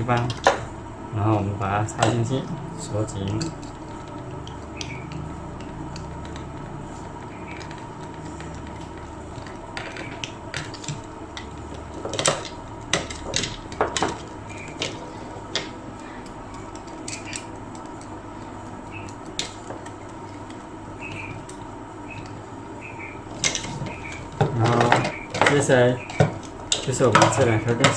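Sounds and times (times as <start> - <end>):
steady background hum: 0.0 - 27.9.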